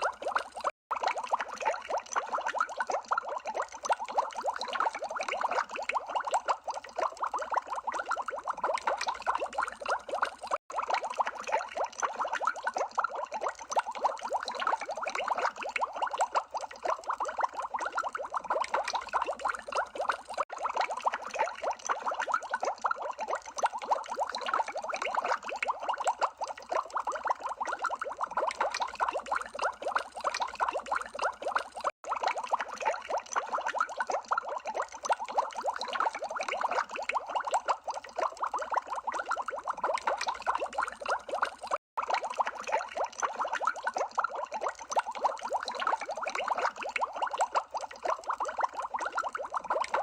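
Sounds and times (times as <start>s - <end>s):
underwater bubbles blipping: 0.0s - 50.0s.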